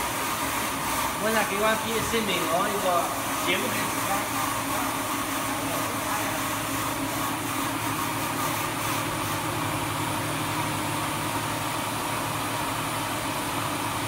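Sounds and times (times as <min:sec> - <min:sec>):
deburring machine humming: 0:00.0 - 0:14.0.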